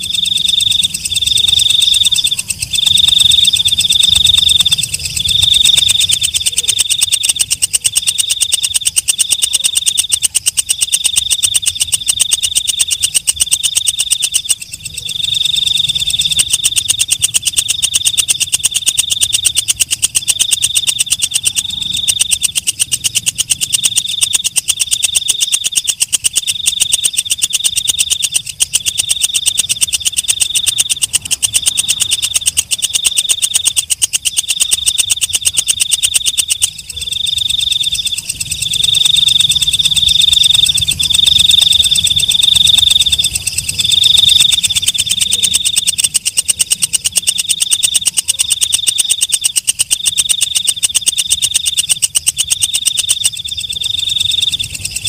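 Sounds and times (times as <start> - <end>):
katydid ticking buzz: 0.0 - 55.0.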